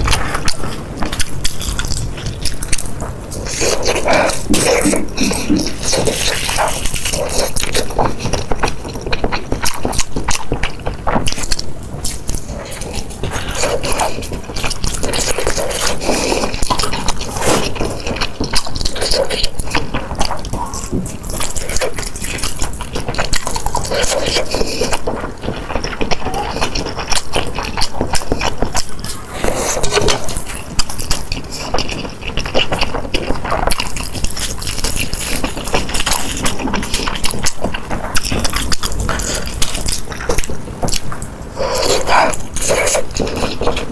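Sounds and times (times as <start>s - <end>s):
wet chewing and smacking: 0.0s - 43.9s.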